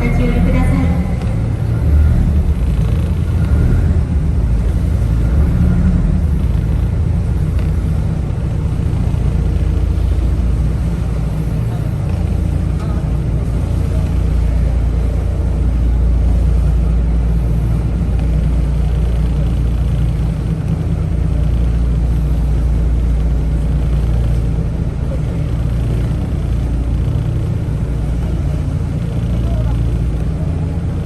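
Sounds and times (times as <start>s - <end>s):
boat engine drone: 0.0s - 31.0s.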